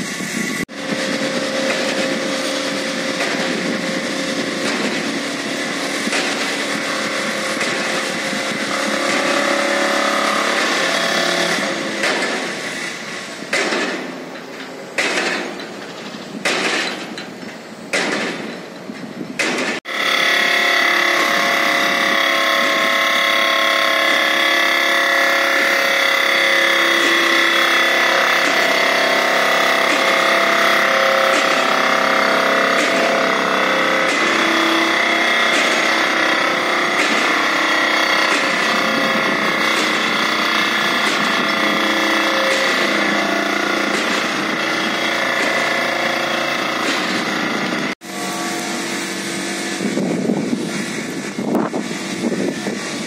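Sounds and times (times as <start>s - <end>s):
vibratory pile driver buzzing: 0.6s - 53.0s.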